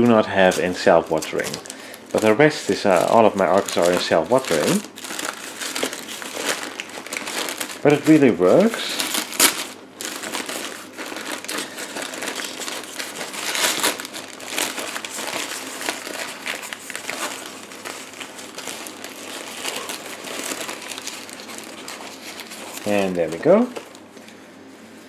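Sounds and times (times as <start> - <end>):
packing paper crinkling: 0.0 - 24.4.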